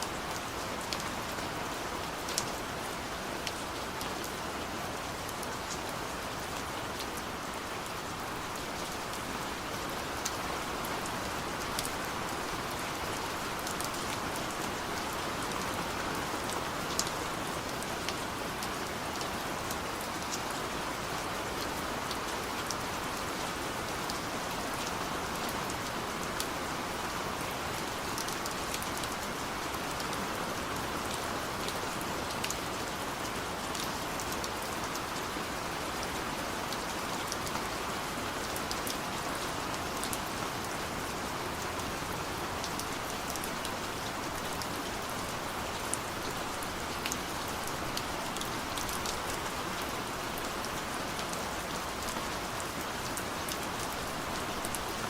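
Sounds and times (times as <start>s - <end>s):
steady rain hiss: 0.0s - 55.0s
raindrops ticking on a surface: 0.2s - 55.0s.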